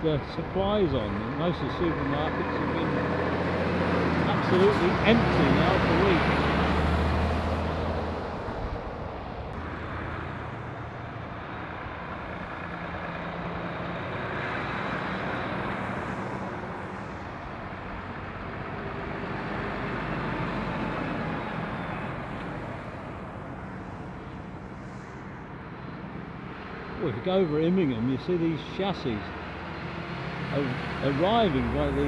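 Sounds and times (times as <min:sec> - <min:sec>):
lorries driving past: 0:00.0 - 0:32.0.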